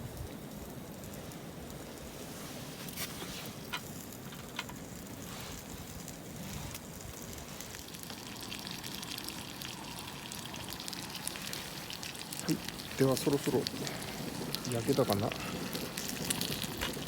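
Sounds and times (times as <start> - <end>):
chicken sizzling in frying: 2.5 - 17.0.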